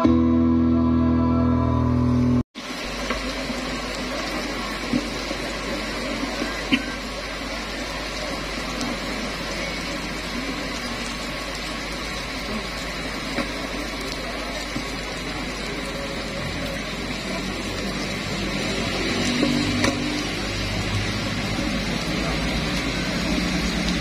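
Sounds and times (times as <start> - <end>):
heavy rain pouring: 2.6 - 24.0.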